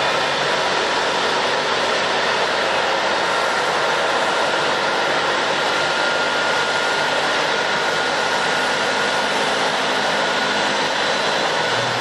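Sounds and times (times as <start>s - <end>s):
high engine whine: 0.0s - 12.0s
jet engines roaring: 0.0s - 12.0s.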